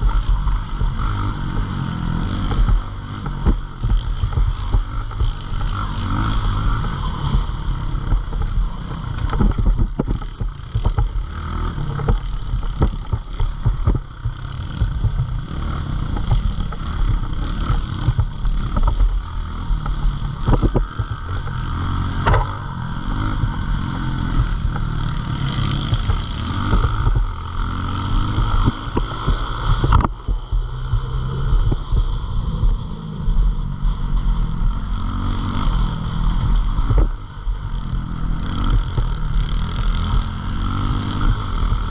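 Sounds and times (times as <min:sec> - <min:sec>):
motorbike engine revving: 0:00.0 - 0:41.9.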